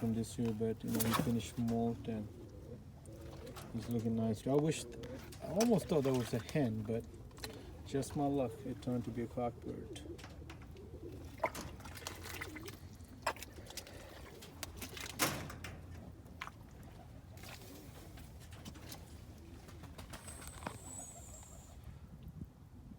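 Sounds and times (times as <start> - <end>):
pigeons cooing: 0.0 - 22.2.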